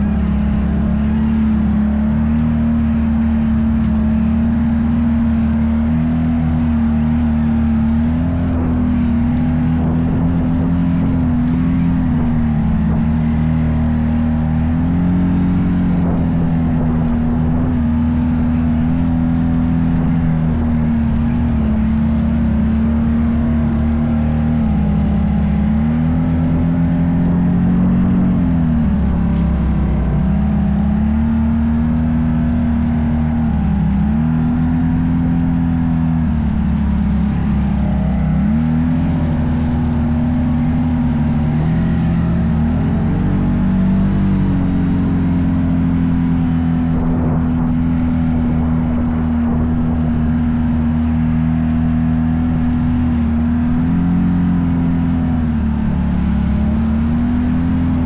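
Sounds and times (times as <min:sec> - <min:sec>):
off-road vehicle engine under load: 0:00.0 - 0:58.0.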